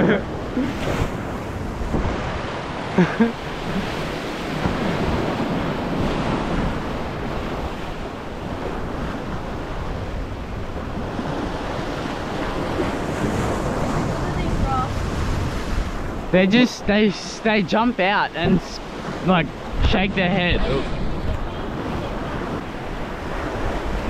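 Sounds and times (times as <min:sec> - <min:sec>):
wind buffeting microphone: 0:00.0 - 0:17.1, 0:18.3 - 0:24.0
ocean swell washing against rocks: 0:00.2 - 0:24.0.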